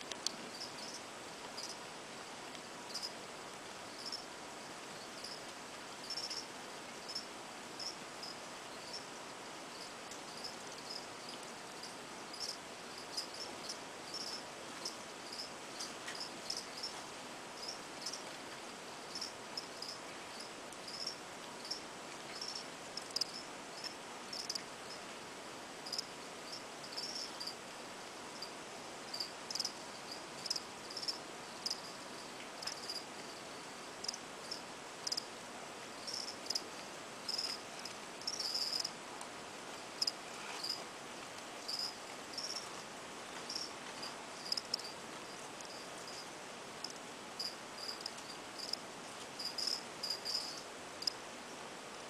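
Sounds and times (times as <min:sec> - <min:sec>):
faint steady hiss: 0:00.0 - 0:52.0
cricket chirping: 0:00.2 - 0:01.8, 0:02.8 - 0:03.2, 0:03.9 - 0:04.4, 0:05.0 - 0:17.0, 0:17.6 - 0:25.1, 0:25.8 - 0:27.6, 0:28.3 - 0:35.4, 0:36.0 - 0:39.0, 0:39.7 - 0:40.8, 0:41.6 - 0:42.8, 0:43.4 - 0:48.8, 0:49.4 - 0:51.2.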